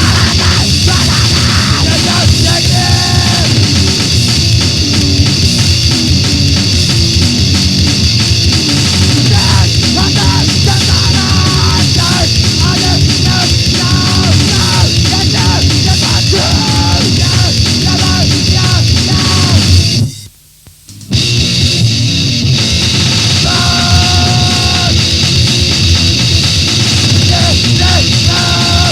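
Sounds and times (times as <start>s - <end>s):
bass guitar: 0.0s - 28.9s
distorted guitar: 0.0s - 28.9s
drums: 0.0s - 28.9s.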